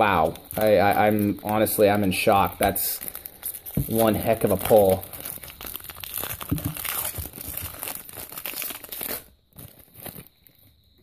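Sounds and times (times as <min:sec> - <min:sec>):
foil wrapper crinkling: 0:00.0 - 0:10.8.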